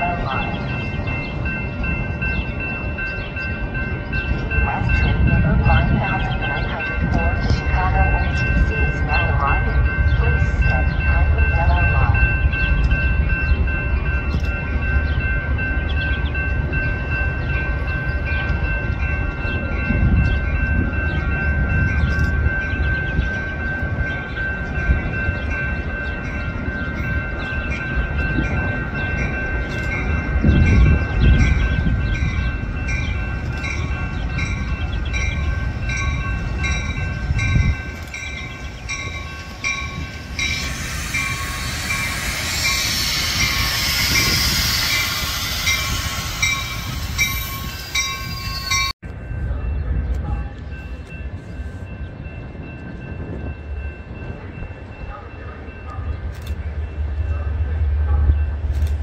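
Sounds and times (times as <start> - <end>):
crossing bell ringing: 0.0 - 59.0
train rumbling past: 0.0 - 59.0.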